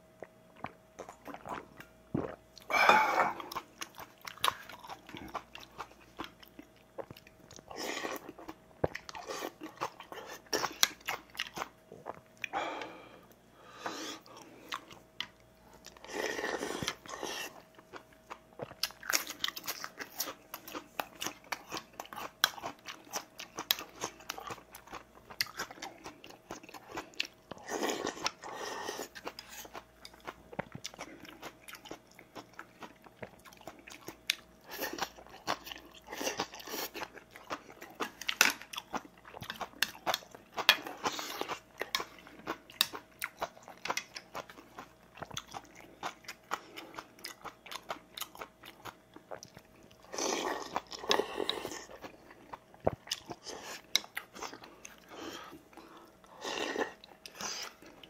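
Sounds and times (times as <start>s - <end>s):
man chewing and crunching food: 0.0s - 58.0s.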